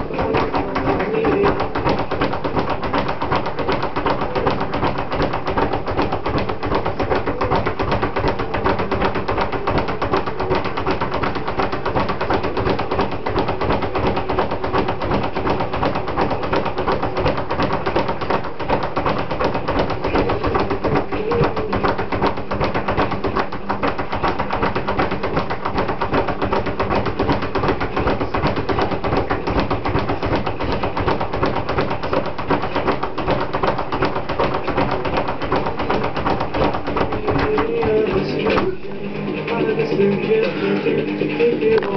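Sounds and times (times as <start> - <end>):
speed bag knocking: 0.0 - 41.9.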